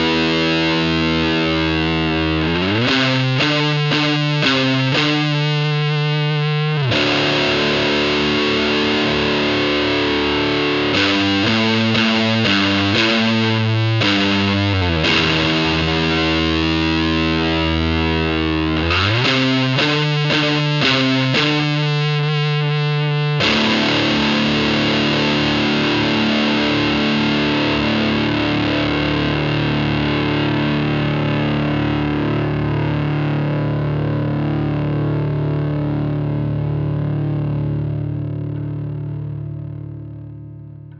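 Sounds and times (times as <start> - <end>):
fuzzy electric guitar chords: 0.0 - 40.9.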